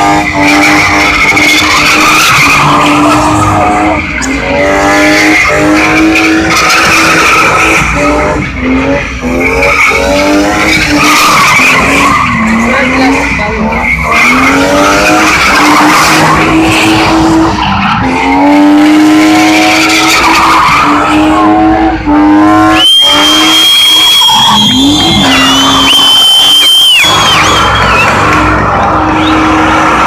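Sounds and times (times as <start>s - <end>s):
car engine revving: 0.0s - 30.0s
high tyre squeal: 0.0s - 30.0s.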